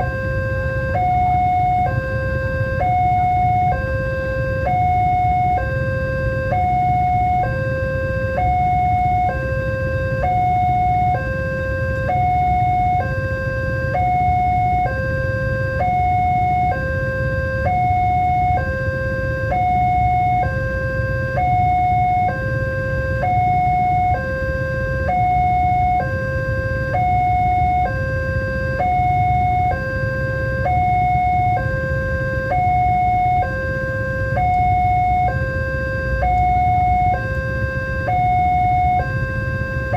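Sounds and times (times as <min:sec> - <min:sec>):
level crossing alarm two-tone: 0:00.0 - 0:39.9.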